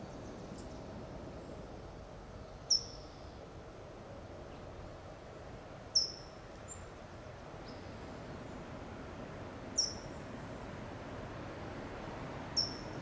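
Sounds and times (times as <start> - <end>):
steady low background hiss: 0.0 - 13.0.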